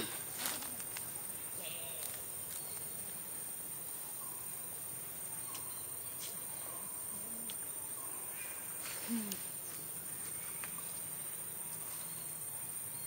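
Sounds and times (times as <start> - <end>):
high-pitched insect hum: 0.0 - 13.0.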